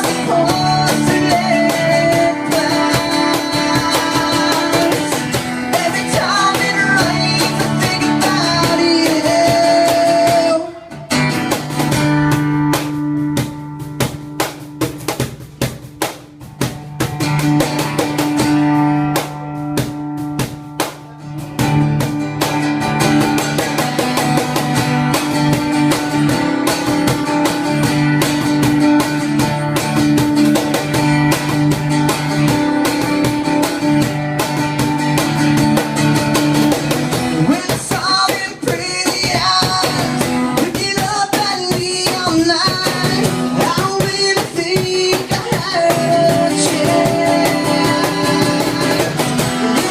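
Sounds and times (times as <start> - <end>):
acoustic guitar: 0.0 - 49.9
cajon beats: 0.0 - 49.9.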